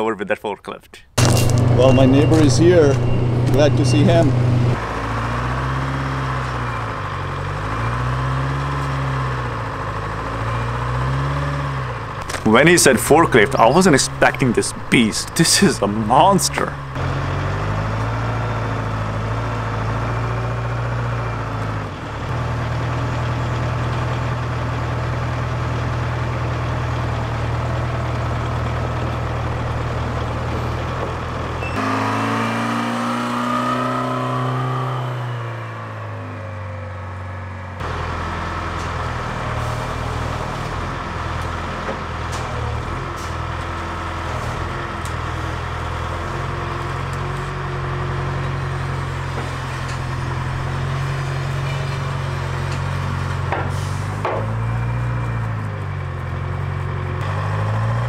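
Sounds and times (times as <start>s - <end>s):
forklift engine running and revving: 1.2s - 58.0s.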